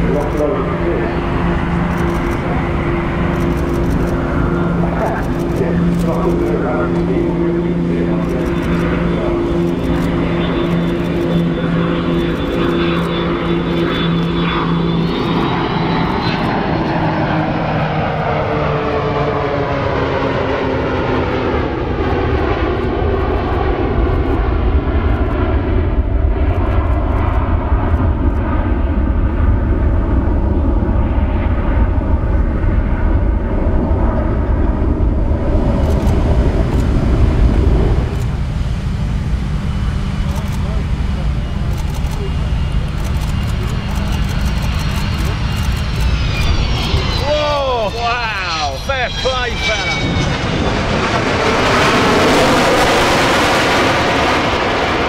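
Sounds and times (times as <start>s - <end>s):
jet engines flying past: 0.0s - 55.0s.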